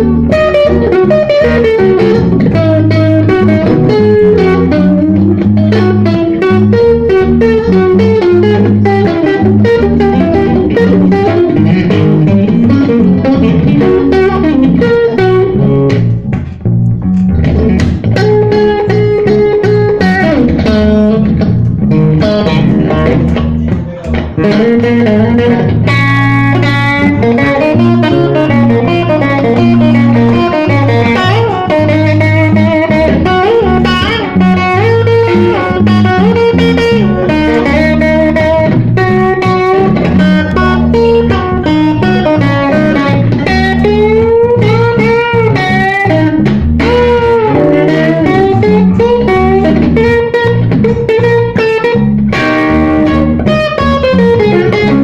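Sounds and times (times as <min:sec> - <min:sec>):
bass guitar: 0:00.0 - 0:55.0
electric guitar lead with bent notes: 0:00.0 - 0:55.0.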